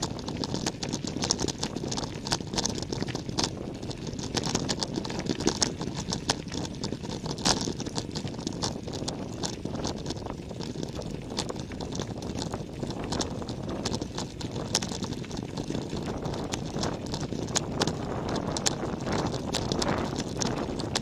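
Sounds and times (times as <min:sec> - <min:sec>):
small stones crunching: 0:00.0 - 0:21.0
wind on microphone: 0:00.0 - 0:21.0.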